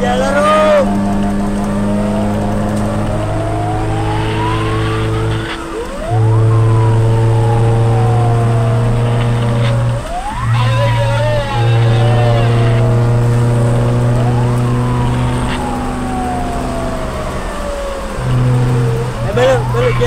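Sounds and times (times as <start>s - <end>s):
fire truck siren wailing: 0.0s - 20.0s.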